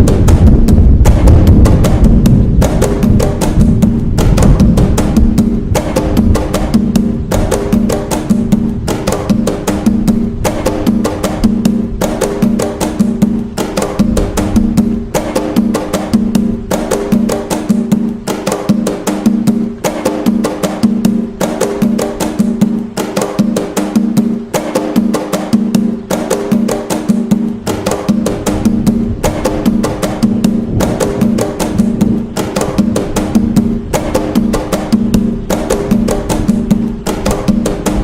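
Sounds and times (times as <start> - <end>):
hand drums playing: 0.0 - 38.0.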